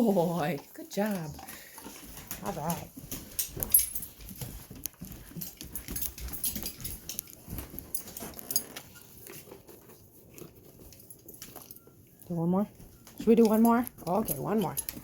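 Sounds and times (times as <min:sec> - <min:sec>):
dog claws clicking and scuffling: 0:01.0 - 0:15.0.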